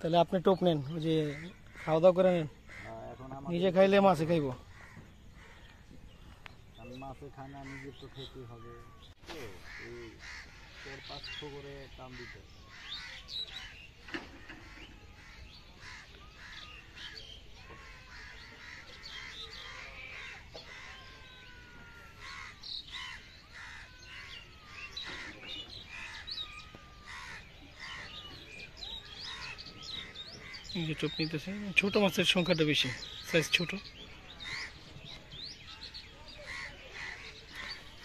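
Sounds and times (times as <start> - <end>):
birds chirping: 0.0 - 38.0
crows cawing: 0.9 - 6.5, 7.4 - 35.3, 36.3 - 38.0.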